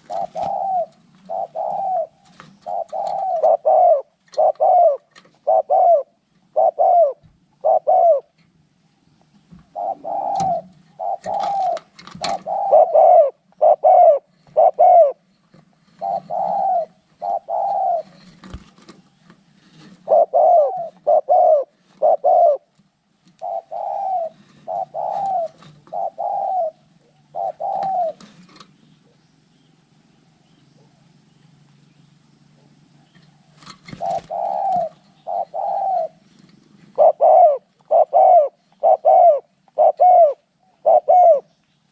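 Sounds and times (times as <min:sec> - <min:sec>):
doves cooing: 0:00.0 - 0:08.4, 0:09.5 - 0:29.9, 0:32.5 - 0:41.6.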